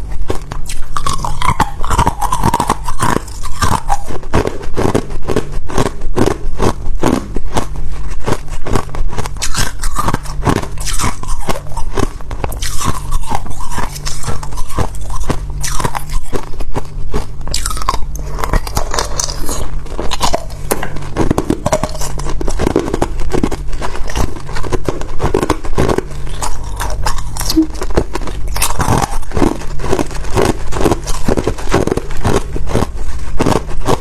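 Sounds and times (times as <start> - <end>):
ice crunching between teeth: 0.0 - 34.0.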